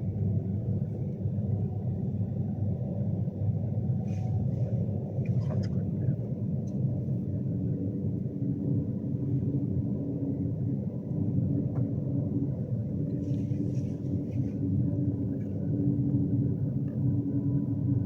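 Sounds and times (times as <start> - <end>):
electric train rumble inside carriage: 0.0 - 18.0
faint constant hum: 0.0 - 18.0.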